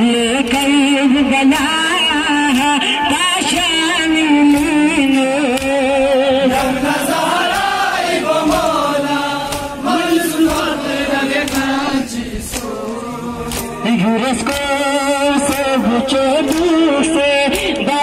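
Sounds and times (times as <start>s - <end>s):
men chanting a lament: 0.0s - 18.0s
hands slapping chests: 2.5s - 16.8s, 17.4s - 17.9s.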